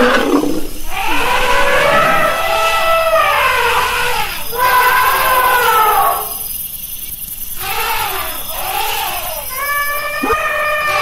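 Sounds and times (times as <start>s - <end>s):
elephant trumpeting: 0.0s - 6.4s, 7.6s - 11.0s.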